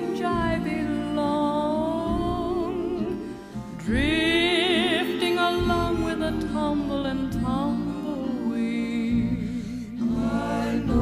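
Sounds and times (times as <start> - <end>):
slow melody with held notes: 0.0 - 11.0.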